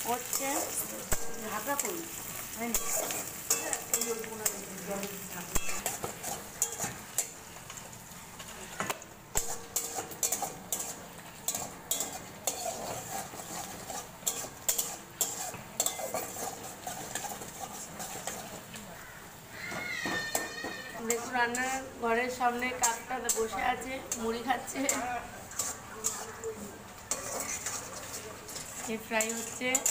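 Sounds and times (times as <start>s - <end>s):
metal spatula scraping pan: 0.0s - 7.8s, 9.4s - 18.8s, 20.0s - 29.9s
onions sizzling in oil: 0.0s - 29.9s.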